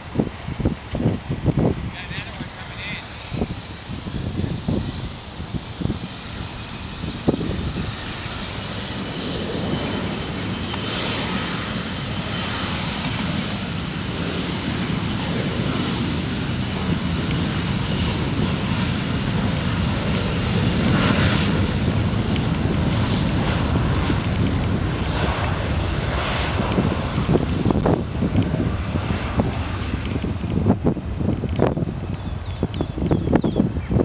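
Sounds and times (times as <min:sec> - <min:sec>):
jet engines running: 0:00.0 - 0:34.0.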